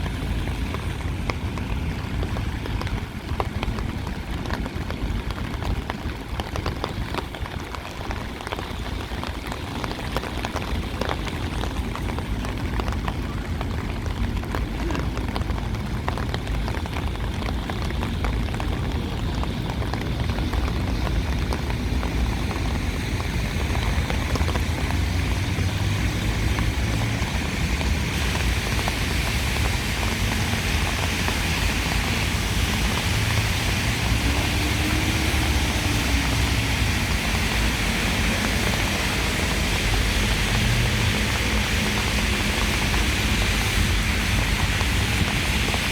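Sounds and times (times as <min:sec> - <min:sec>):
low rumble of traffic: 0:00.0 - 0:45.9
rain and wet tyres hissing: 0:00.0 - 0:45.9.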